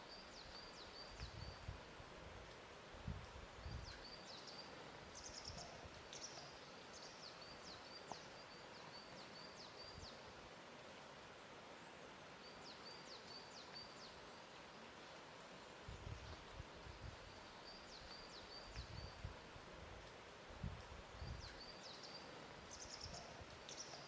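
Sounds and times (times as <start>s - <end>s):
soft wash of water: 0.0s - 24.0s.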